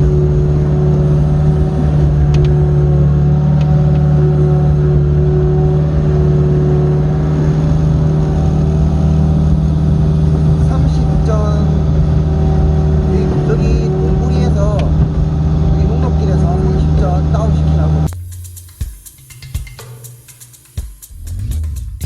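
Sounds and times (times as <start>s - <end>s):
diesel engine humming: 0.0s - 18.8s.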